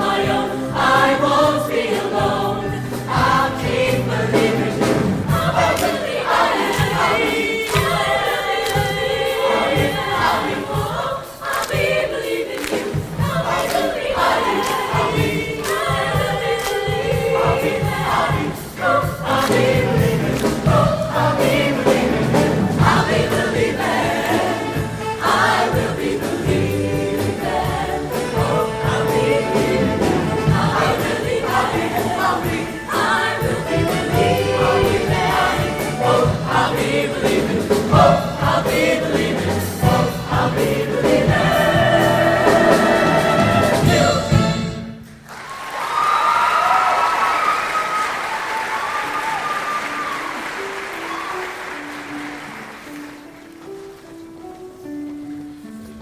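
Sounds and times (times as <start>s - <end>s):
choir singing in harmony: 0.0s - 45.2s.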